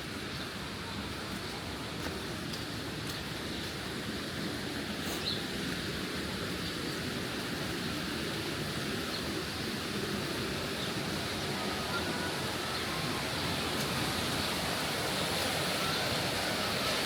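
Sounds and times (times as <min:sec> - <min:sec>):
rushing mountain stream: 0:00.0 - 0:17.0.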